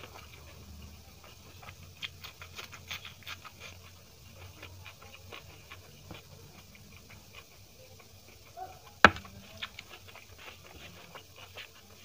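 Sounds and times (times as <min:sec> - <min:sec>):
fingers mixing rice on plate: 0:00.0 - 0:12.0
wet chewing clicks: 0:00.0 - 0:12.0.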